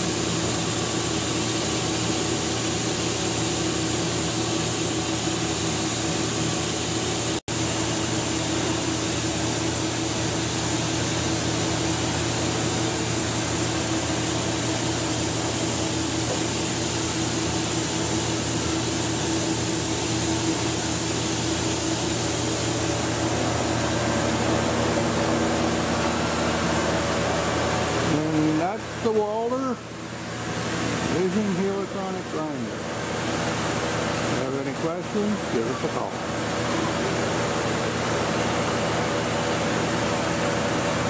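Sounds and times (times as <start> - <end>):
grinding machine humming and hissing: 0.0 - 41.0.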